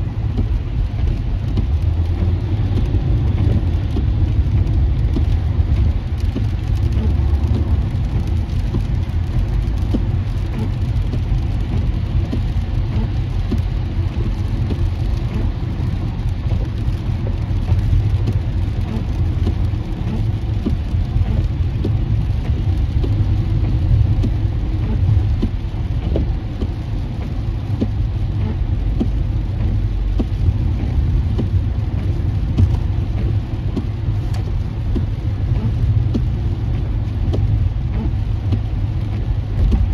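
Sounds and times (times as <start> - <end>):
rain hitting windshield: 0.0 - 39.9
tyres on wet road: 0.0 - 39.9.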